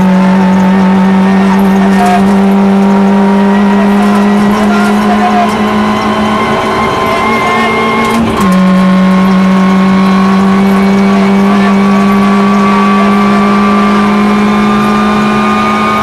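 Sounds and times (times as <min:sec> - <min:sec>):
rally car engine at high revs: 0:00.0 - 0:16.0.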